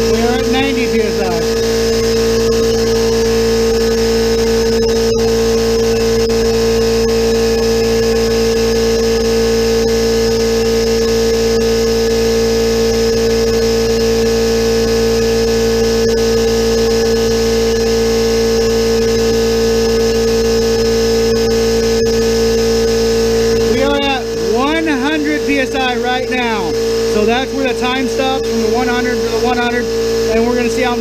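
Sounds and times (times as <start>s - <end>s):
air compressor humming: 0.0s - 31.0s.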